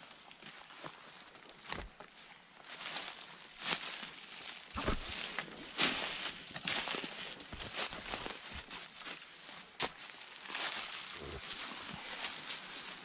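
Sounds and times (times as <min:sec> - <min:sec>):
footsteps crunching through dry leaves: 0:00.1 - 0:13.0.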